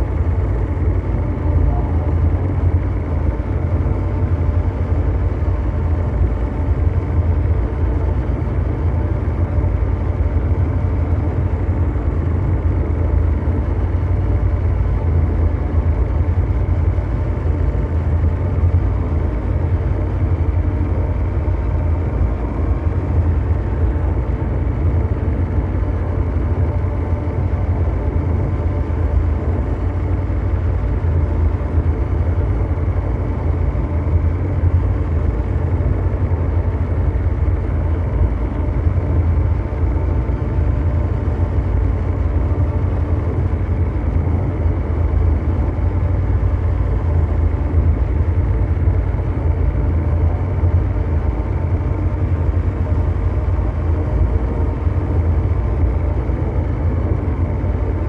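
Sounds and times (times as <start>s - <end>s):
deep synthesized rumble drone: 0.0s - 58.0s
faint held hums: 0.0s - 58.0s.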